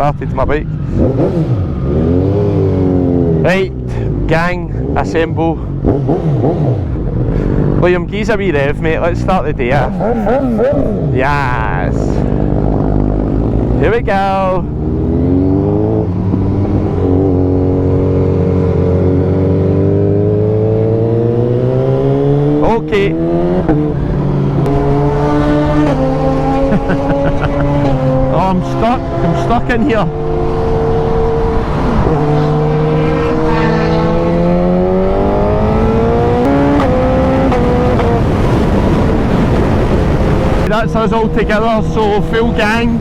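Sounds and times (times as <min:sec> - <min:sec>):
motorcycle engine accelerating: 0:00.0 - 0:43.0
wind and road noise: 0:00.0 - 0:43.0.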